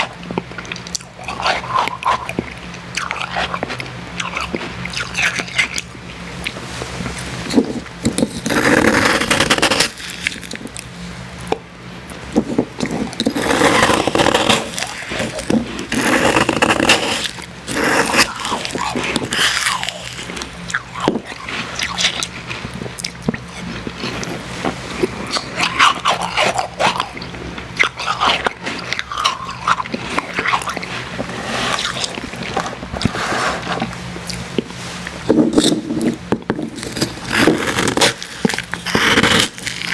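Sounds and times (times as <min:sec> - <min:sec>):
crunching and chewing slush: 0:00.0 - 0:39.9.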